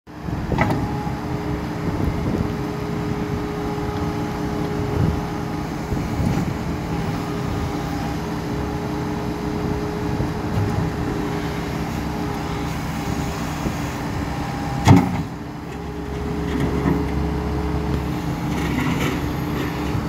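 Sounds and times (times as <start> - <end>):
diesel loader engine running: 0.1 - 20.0.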